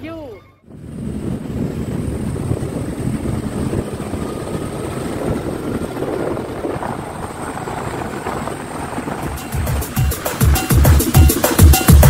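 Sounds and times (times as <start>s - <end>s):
motorbike engines rumbling: 0.0s - 12.0s
rushing air: 0.7s - 12.0s.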